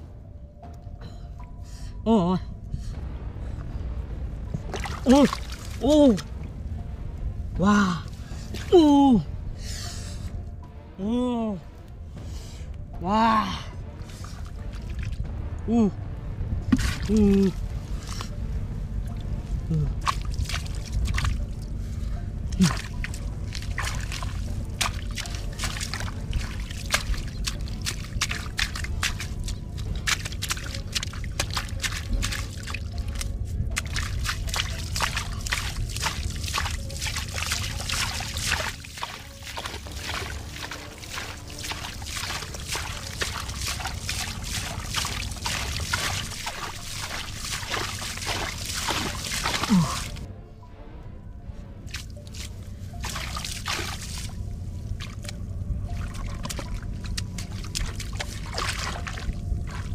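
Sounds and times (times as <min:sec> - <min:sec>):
steady low rumble: 0:00.0 - 0:59.9
muddy water splashing: 0:03.6 - 0:07.0, 0:07.6 - 0:09.3, 0:13.4 - 0:16.0, 0:16.6 - 0:50.3, 0:51.8 - 0:59.9.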